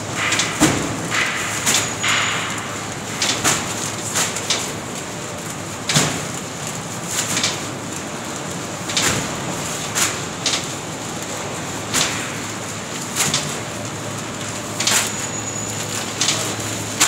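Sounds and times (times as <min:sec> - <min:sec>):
conveyor running: 0:00.0 - 0:17.0.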